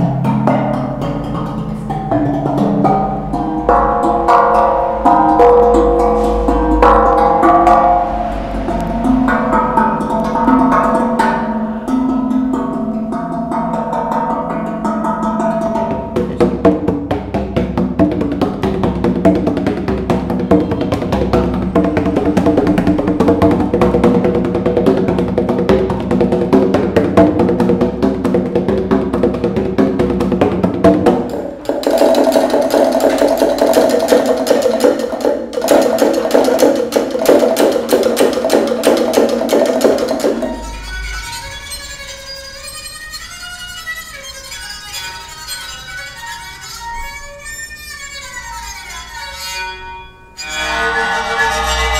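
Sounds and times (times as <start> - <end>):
metal tongue drum notes: 0.0 - 42.1
fast pitched percussion strikes: 0.0 - 43.8, 50.4 - 51.9.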